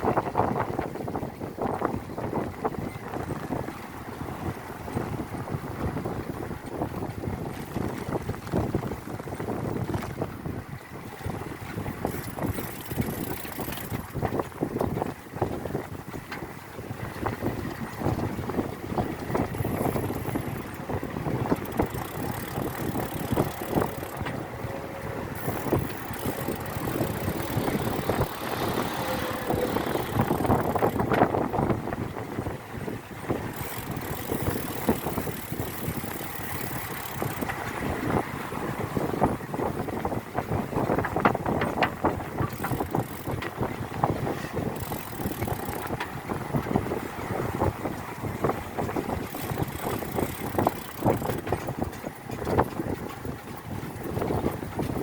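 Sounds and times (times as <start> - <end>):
wind buffeting microphone: 0.0 - 55.0
bike tyres and rattling parts: 5.8 - 38.3, 39.0 - 55.0.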